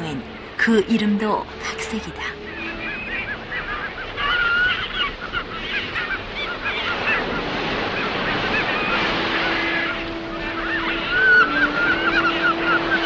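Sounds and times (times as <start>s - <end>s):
gulls calling: 0.0s - 13.0s
sea noise: 0.0s - 13.0s.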